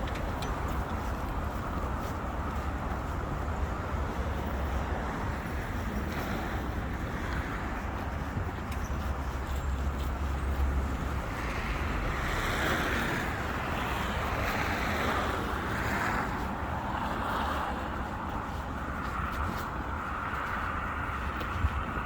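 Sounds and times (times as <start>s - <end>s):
cars passing: 0.0s - 22.0s
wind rumble on microphone: 0.0s - 22.0s.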